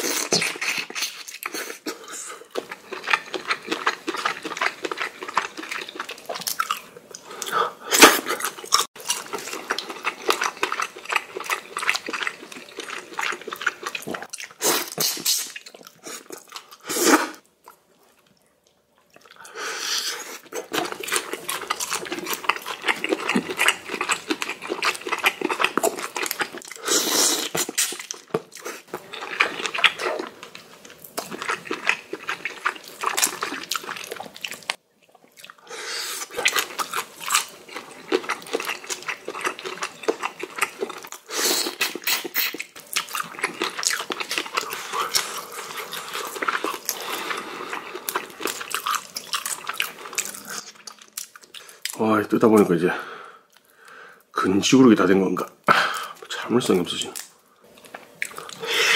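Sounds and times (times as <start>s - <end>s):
wet chewing: 0.0s - 16.9s, 20.3s - 52.0s, 57.2s - 58.9s.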